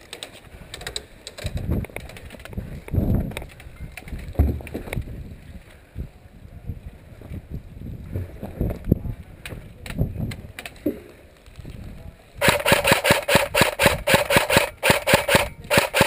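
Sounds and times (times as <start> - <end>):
wind rumbling on microphone: 0.4 - 16.0.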